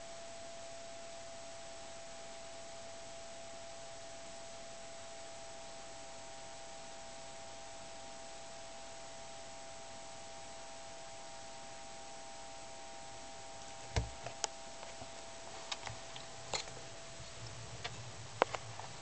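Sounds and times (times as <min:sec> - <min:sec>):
faint electronic whine: 0:00.0 - 0:19.0
recording hiss: 0:00.0 - 0:19.0.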